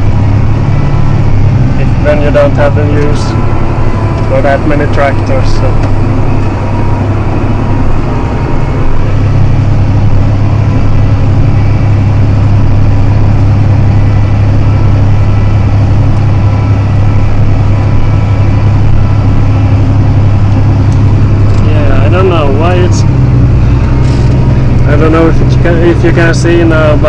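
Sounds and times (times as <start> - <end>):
tractor diesel engine droning: 0.0 - 27.0.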